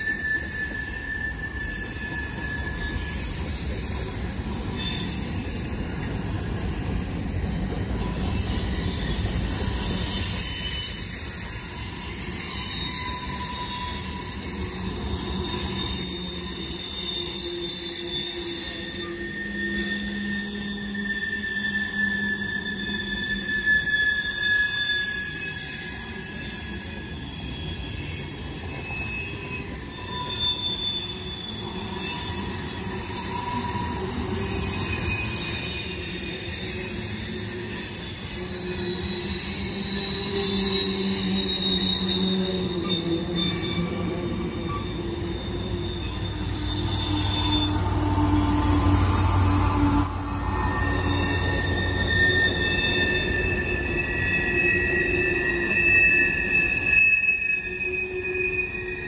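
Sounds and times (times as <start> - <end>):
freight train rumbling on rails: 0.0 - 59.0
train wheels squealing: 0.0 - 59.0.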